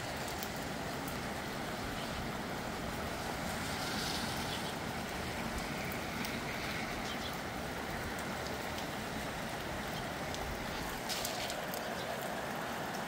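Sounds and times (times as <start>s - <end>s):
rain falling in wind: 0.0s - 13.0s
raindrops ticking: 0.0s - 13.0s.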